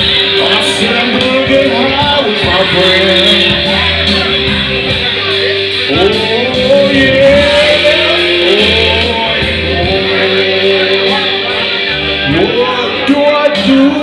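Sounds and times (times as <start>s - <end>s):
backing track with guitar: 0.0s - 14.0s
man singing into a microphone: 0.0s - 14.0s.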